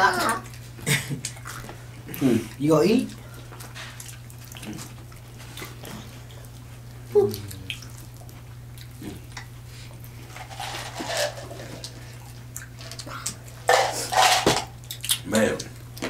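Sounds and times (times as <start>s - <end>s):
steady low hum: 0.0s - 16.0s
wet chewing: 0.3s - 10.4s, 11.7s - 13.6s, 14.7s - 16.0s.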